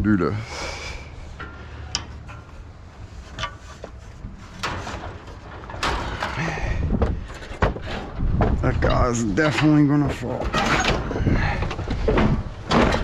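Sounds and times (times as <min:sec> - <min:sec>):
metal scraping and banging: 0:00.8 - 0:13.0
scrap metal clanking: 0:00.8 - 0:13.0.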